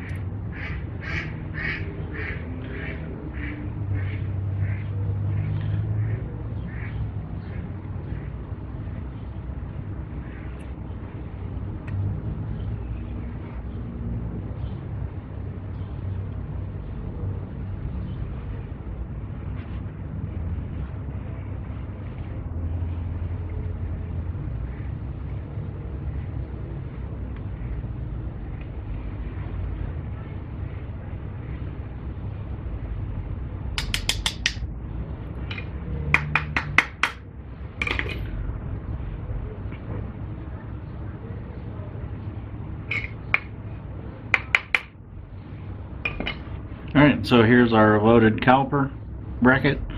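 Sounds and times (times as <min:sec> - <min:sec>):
low hum and rumble: 0:00.0 - 0:49.9.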